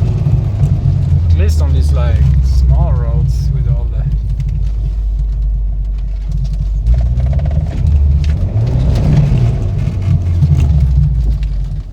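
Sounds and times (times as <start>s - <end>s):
car engine accelerating hard: 0.0s - 11.9s.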